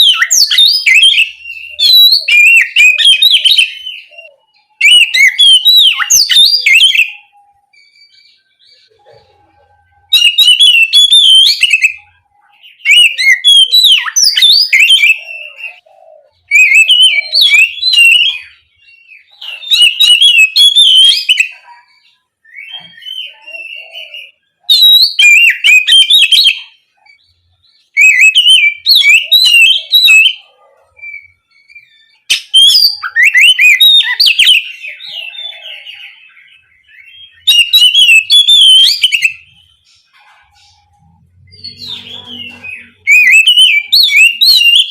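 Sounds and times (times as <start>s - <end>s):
bird singing whistled phrases: 0.0s - 8.9s, 10.1s - 27.3s, 27.9s - 39.9s, 41.4s - 44.9s.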